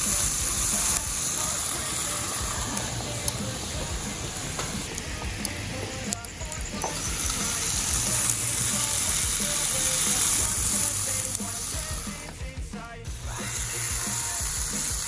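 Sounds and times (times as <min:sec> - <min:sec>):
food sizzling in a frying pan: 0:00.0 - 0:12.4, 0:13.0 - 0:15.0
faint background music: 0:00.0 - 0:15.0.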